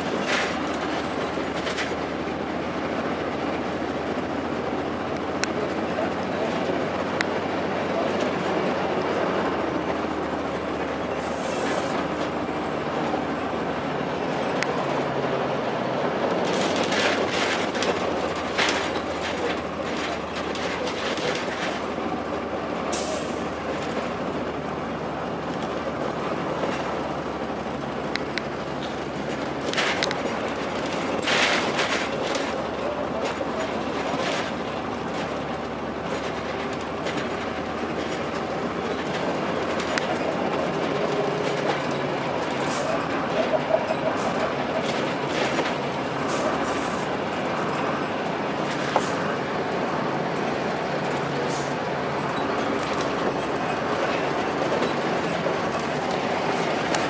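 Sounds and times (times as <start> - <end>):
diesel bus engine running: 0.0 - 57.0
road noise: 0.0 - 57.0.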